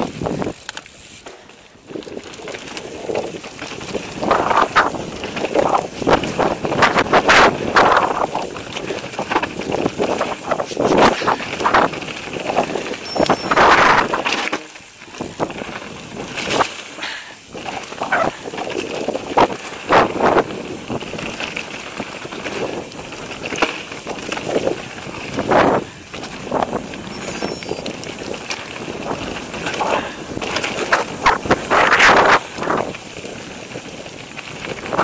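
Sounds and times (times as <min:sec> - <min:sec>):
wind noise on microphone: 0:00.0 - 0:00.7, 0:01.8 - 0:16.8, 0:17.4 - 0:35.0
bike rattling: 0:00.0 - 0:35.0
bike tyres rolling over stone: 0:00.0 - 0:35.0.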